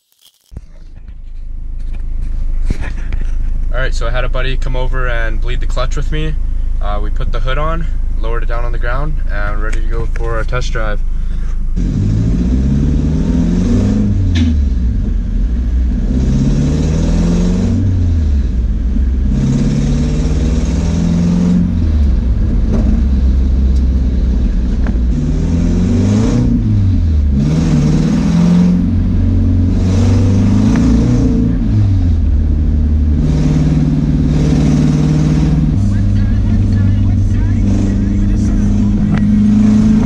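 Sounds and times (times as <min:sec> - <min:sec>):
car engine pulling through gears: 0:00.0 - 0:40.0.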